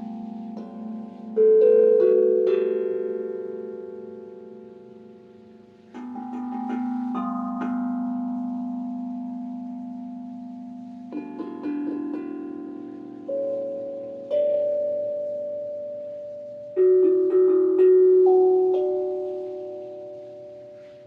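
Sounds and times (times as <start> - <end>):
bright ringing notes: 0.0 - 21.0.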